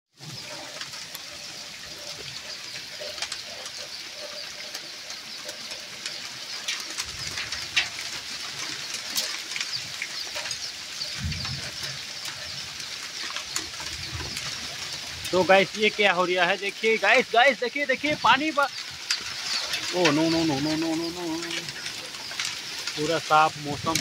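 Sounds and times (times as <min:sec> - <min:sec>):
hailstones ticking on ground: 0:00.2 - 0:24.0
heavy rain hissing: 0:00.2 - 0:24.0.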